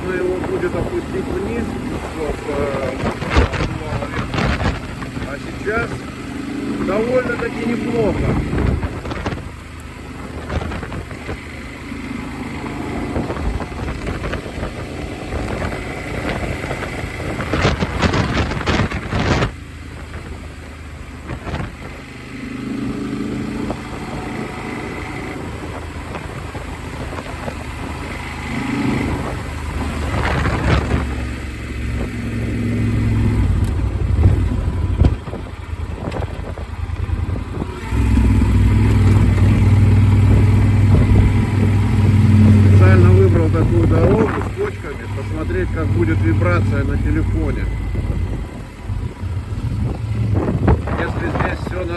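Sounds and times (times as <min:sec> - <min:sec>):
motorcycle engine running: 0:00.0 - 0:51.9
wind rushing over microphone: 0:00.0 - 0:51.9.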